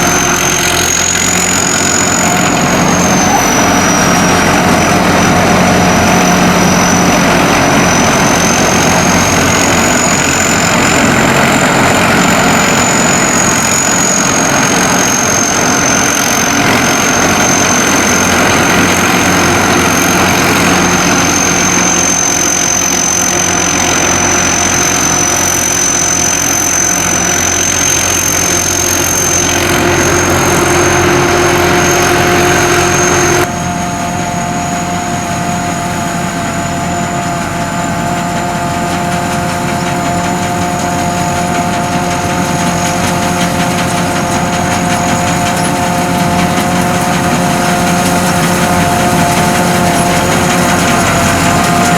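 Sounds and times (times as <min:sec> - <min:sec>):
combine harvester engine running: 0:00.0 - 0:51.9
high-pitched whine: 0:00.0 - 0:51.9.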